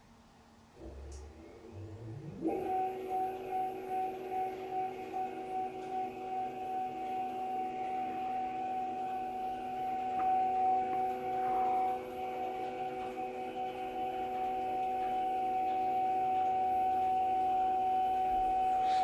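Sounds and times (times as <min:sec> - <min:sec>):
stepper motor whine: 0:00.8 - 0:19.0.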